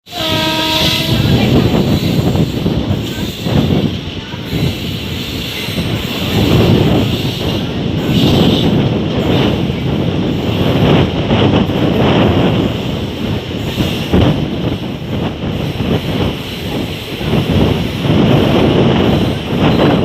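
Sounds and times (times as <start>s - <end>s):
train rumbling along track: 0.0s - 20.0s
wind on microphone: 0.1s - 20.0s.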